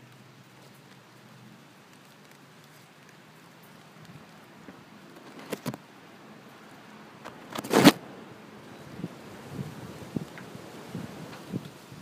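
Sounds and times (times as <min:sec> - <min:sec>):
faint hiss: 0:00.0 - 0:12.0
leaves and twigs rustling: 0:00.0 - 0:12.0.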